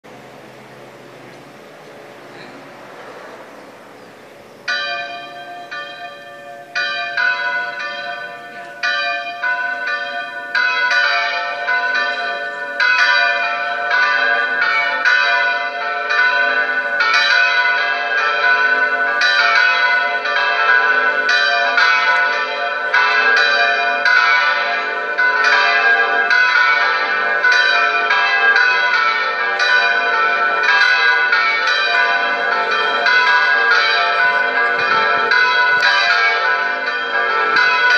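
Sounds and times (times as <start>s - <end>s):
electronic church bells ringing: 3.5s - 37.9s.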